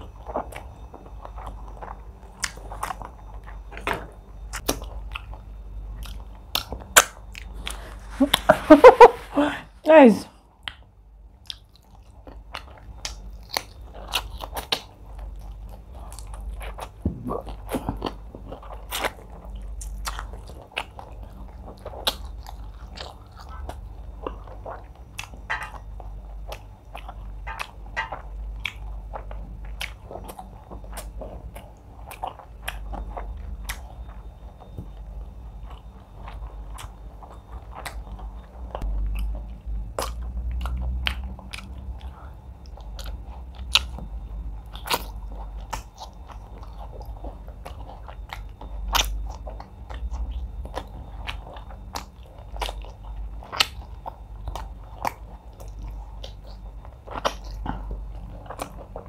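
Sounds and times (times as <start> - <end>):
chewing with wet mouth clicks: 0.0 - 7.8, 10.6 - 59.0.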